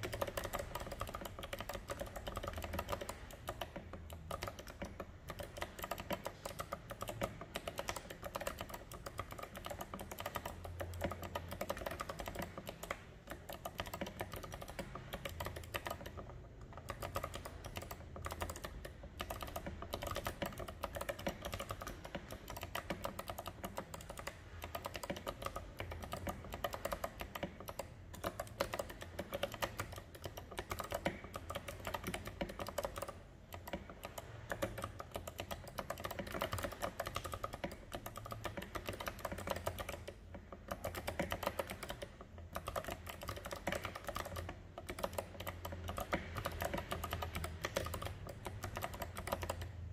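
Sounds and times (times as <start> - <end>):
fast typing on mechanical keyboard: 0.0 - 49.9.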